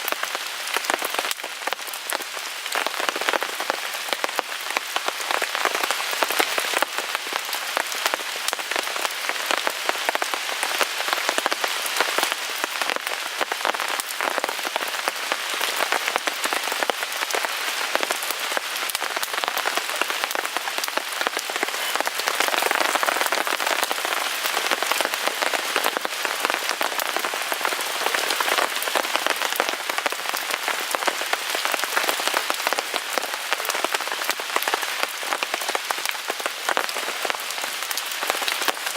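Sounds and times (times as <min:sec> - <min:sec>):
rain falling on a tarp: 0:00.0 - 0:38.9.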